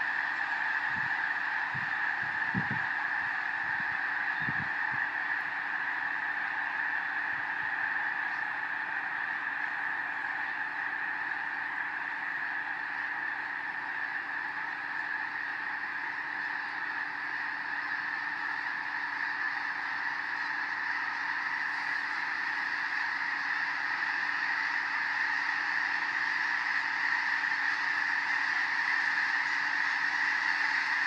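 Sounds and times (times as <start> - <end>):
geese honking in flight: 0.0 - 31.0.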